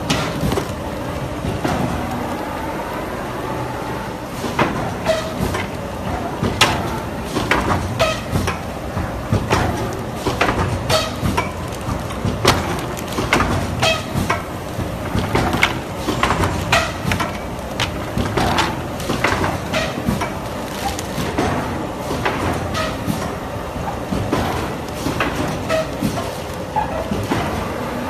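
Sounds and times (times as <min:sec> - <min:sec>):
machine knocking and clattering: 0:00.0 - 0:02.6, 0:04.3 - 0:28.0.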